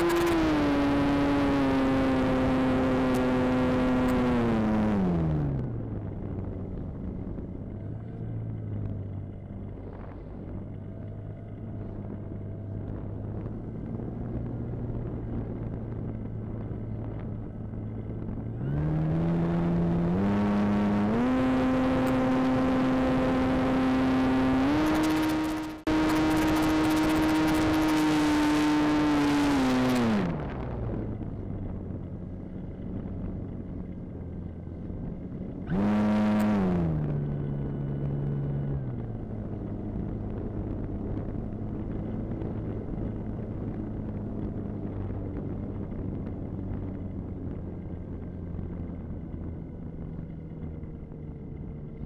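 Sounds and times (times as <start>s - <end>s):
air noise while gliding: 0.0s - 52.0s
electric motor and propeller whine: 0.0s - 52.0s.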